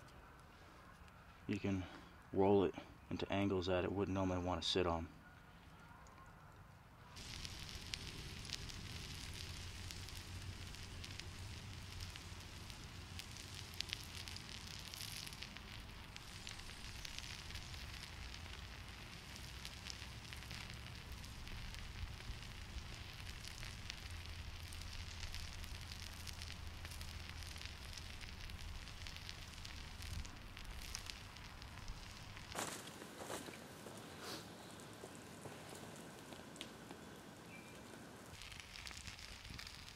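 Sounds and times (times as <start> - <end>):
sausage sizzling: 7.1 - 39.9
campfire pops and crackles: 7.2 - 39.9.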